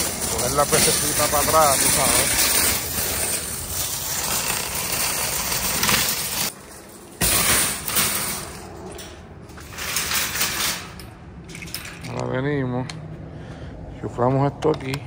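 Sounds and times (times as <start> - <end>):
metal cart clatter: 0.0 - 12.3
shopping cart rattling on pavement: 0.0 - 12.4.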